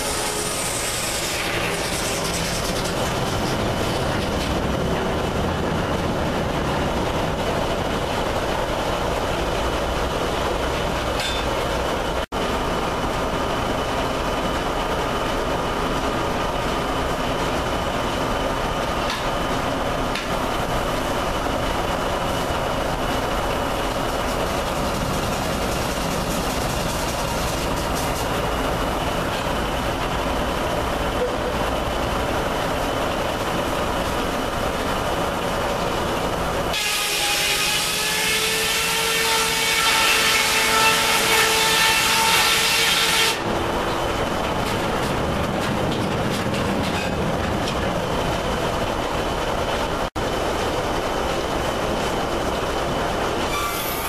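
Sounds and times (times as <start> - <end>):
sawmill machinery din: 0.0 - 54.0.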